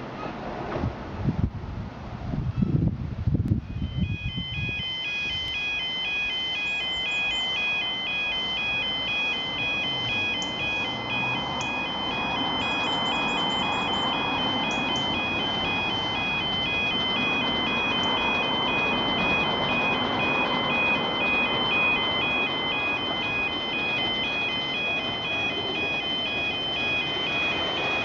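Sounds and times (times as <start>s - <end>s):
level crossing two-tone alarm: 3.6s - 28.0s.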